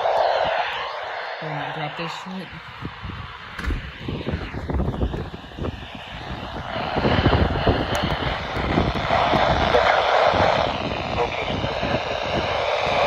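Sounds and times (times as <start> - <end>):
radio static hiss: 0.0 - 3.4, 4.1 - 13.0.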